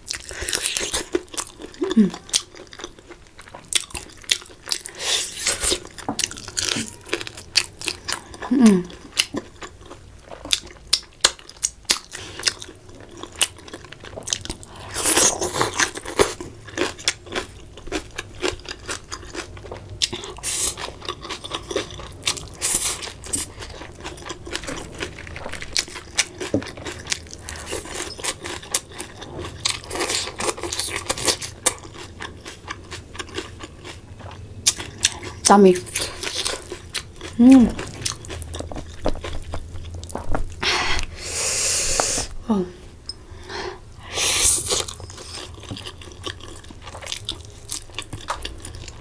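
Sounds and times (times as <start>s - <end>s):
crunchy chewing of fried chicken: 0.0s - 42.2s, 44.2s - 49.0s.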